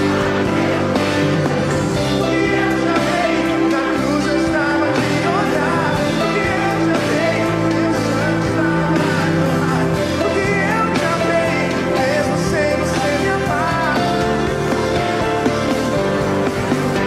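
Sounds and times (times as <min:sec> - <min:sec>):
person singing: 0:00.0 - 0:15.7
drums: 0:00.0 - 0:17.0
electric guitar: 0:00.0 - 0:17.0.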